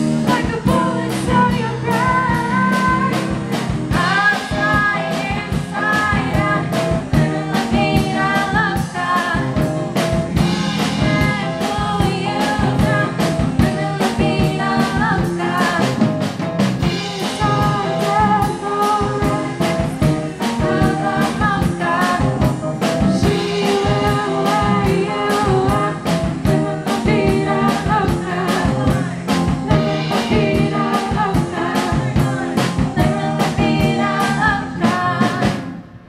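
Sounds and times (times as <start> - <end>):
steady drum beat: 0.0 - 35.8
band playing: 0.0 - 36.0
group singing into microphones: 0.0 - 36.0.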